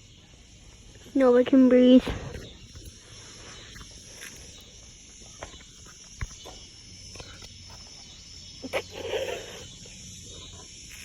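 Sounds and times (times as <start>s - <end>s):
background hiss: 0.0s - 11.0s
faint high hum: 0.0s - 11.0s.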